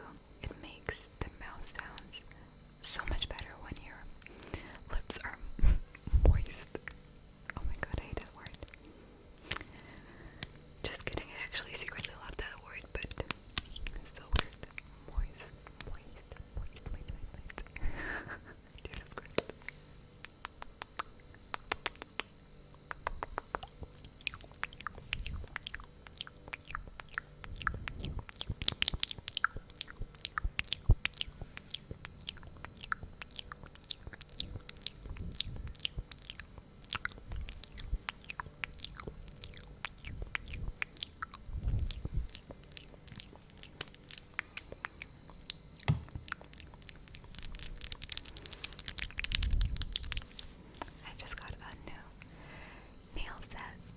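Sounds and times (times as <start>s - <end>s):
sticky lips smacking: 6.2s - 17.9s, 18.6s - 52.3s.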